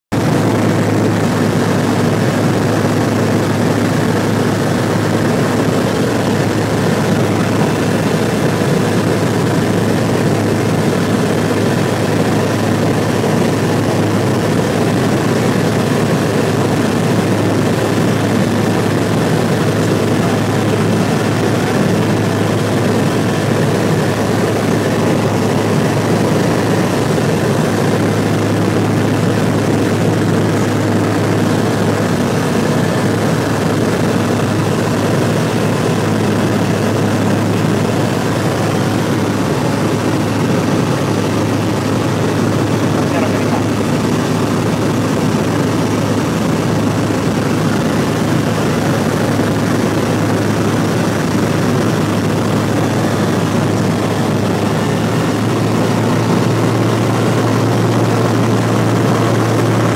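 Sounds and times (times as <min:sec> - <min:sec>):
light aircraft engine drone: 0:00.1 - 0:59.9.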